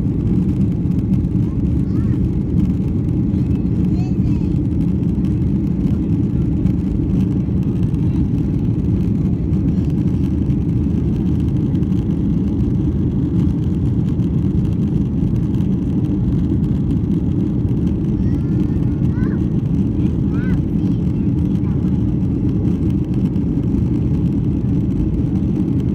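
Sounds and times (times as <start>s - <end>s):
airplane cabin engine noise: 0.0s - 25.9s.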